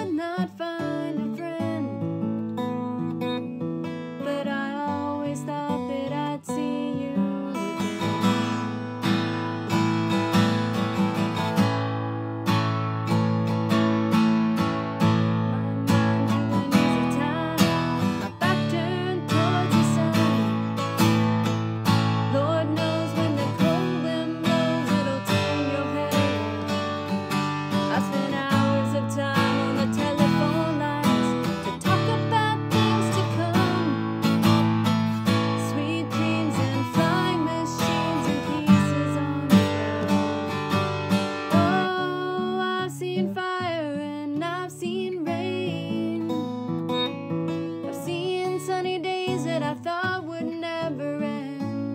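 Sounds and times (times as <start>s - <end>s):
woman singing: 0.0s - 2.3s, 4.1s - 8.8s, 15.0s - 40.6s, 41.3s - 46.8s, 47.8s - 51.9s
acoustic guitar strumming: 0.0s - 51.9s.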